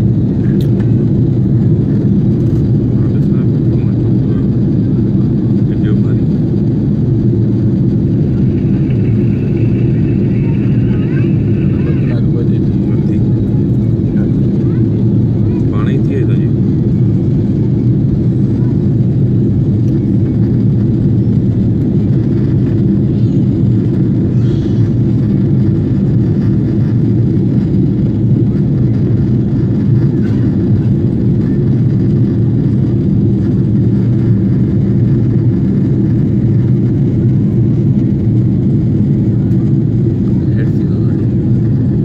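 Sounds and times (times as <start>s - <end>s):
airliner cabin noise: 0.0s - 42.0s.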